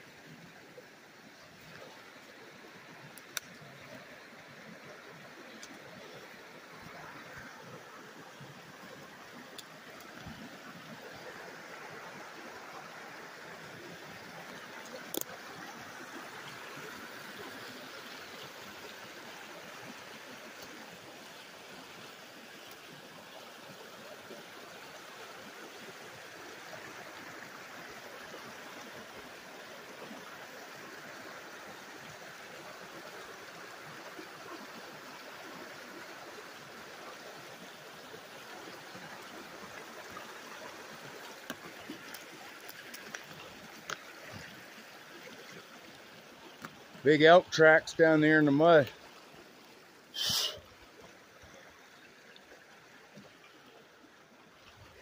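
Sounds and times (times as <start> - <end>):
creek water rushing over rocks: 0.0 - 55.0.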